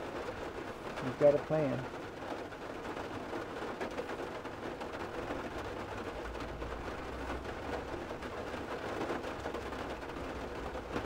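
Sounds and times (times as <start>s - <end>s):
light rain on a vehicle roof: 0.0s - 11.0s.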